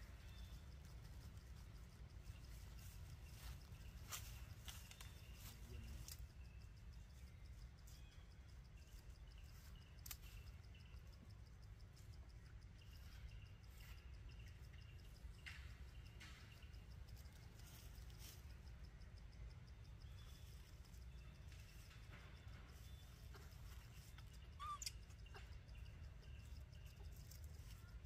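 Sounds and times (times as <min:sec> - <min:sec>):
insects pulsing: 0:00.0 - 0:28.0
faint bird calls: 0:02.2 - 0:28.0.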